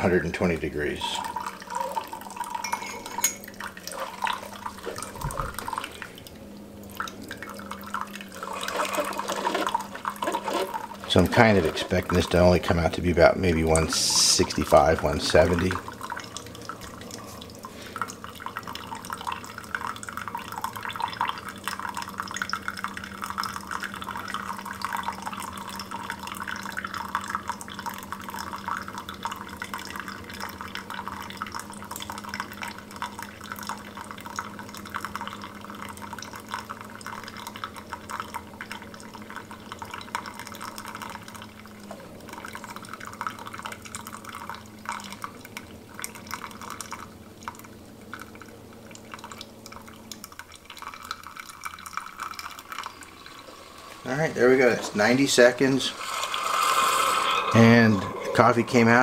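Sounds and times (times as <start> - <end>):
coffee machine humming: 0.0 - 59.0
coffee trickling into a mug: 0.0 - 59.0.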